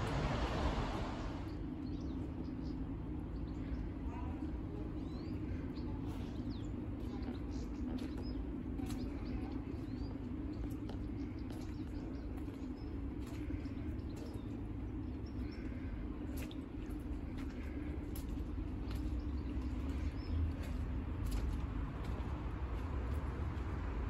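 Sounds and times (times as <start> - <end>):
low hum and rumble: 0.0 - 24.0
small birds chirping: 1.2 - 23.7.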